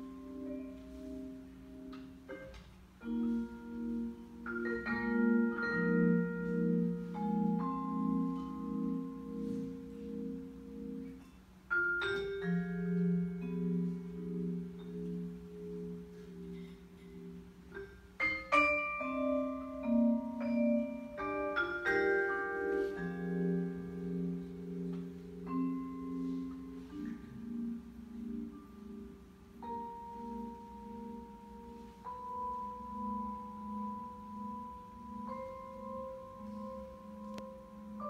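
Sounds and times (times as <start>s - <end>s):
solo vibraphone blues piece: 0.0s - 38.0s.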